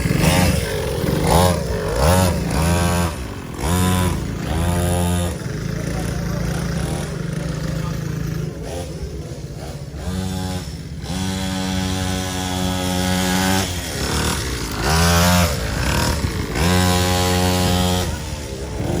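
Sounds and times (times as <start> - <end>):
two-stroke dirt bike engine revving: 0.0 - 19.0.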